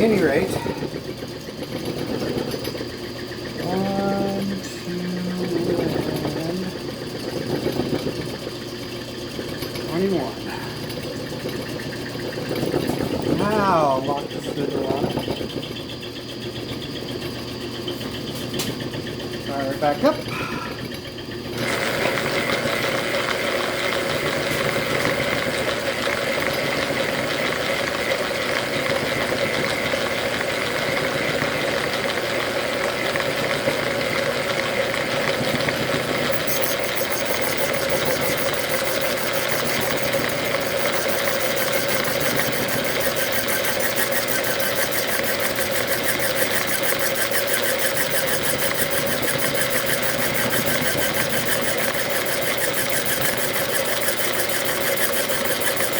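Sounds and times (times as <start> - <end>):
lathe running: 0.0 - 55.9.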